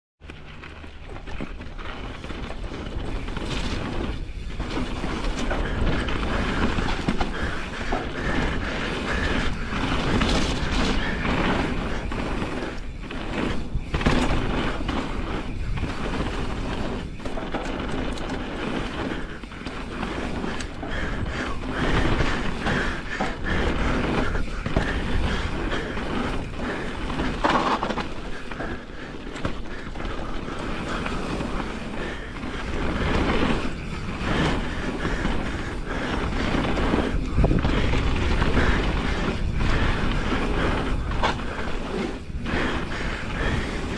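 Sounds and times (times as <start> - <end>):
bike chain and frame rattling: 0.2 - 43.9
bike tyres rumbling over dirt: 0.2 - 43.9.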